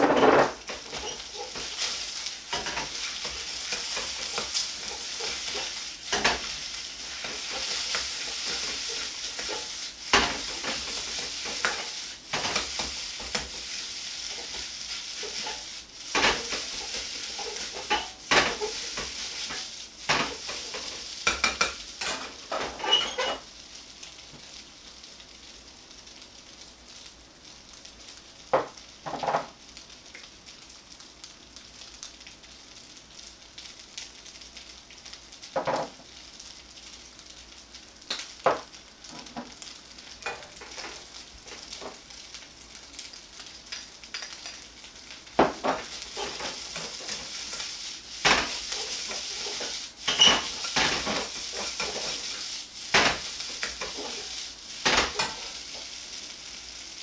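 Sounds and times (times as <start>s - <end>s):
rice sizzling in a wok: 0.0s - 57.0s.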